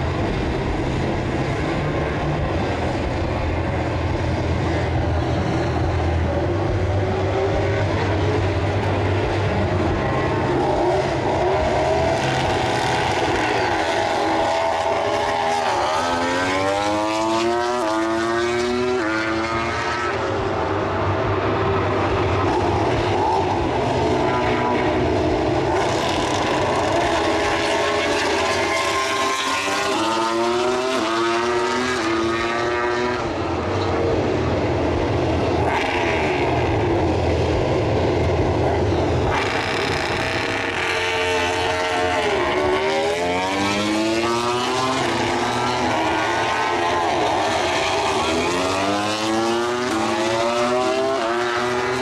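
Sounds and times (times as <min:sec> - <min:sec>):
racing motorcycle engines revving: 0:00.0 - 0:52.0.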